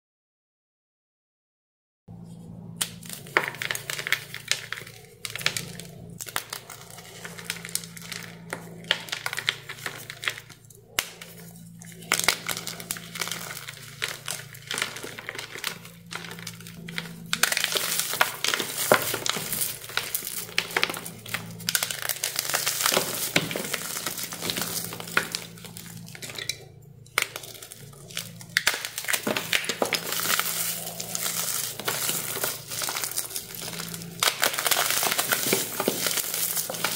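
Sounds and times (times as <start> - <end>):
faint low hum: 2.1 - 36.9
glitter bombs crunching: 2.7 - 36.9.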